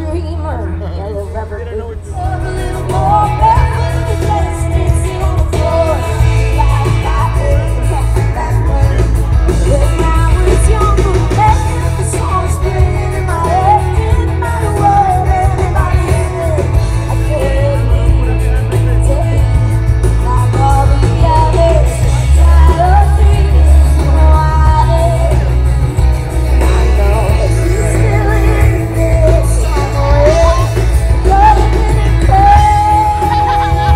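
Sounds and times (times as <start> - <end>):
woman singing: 0.0 - 1.4, 2.2 - 25.8, 26.5 - 33.9
live rock band: 0.0 - 33.9.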